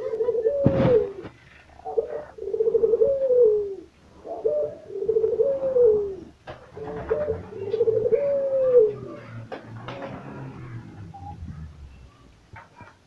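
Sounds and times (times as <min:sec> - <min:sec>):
dove cooing: 0:00.0 - 0:12.9.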